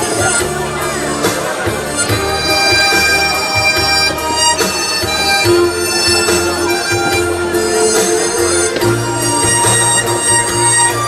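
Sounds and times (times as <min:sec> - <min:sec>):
backing track with bass line: 0:00.0 - 0:11.0
harmonica melody: 0:00.0 - 0:11.0.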